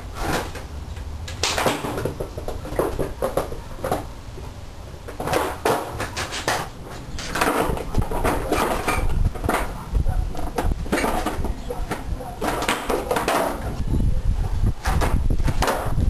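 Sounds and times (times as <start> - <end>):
skateboard clacking on concrete: 0.1 - 4.1, 5.0 - 13.8, 14.8 - 16.0.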